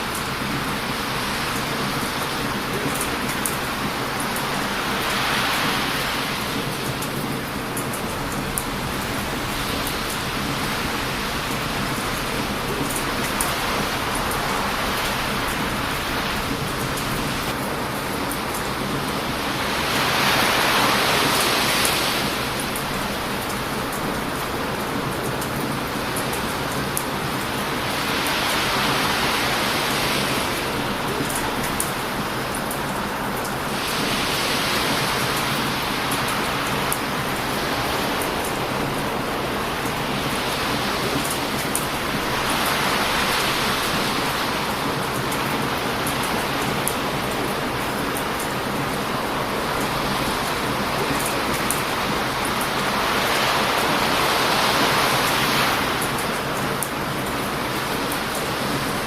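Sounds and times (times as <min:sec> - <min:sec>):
surf breaking on a beach: 0:00.0 - 0:59.0.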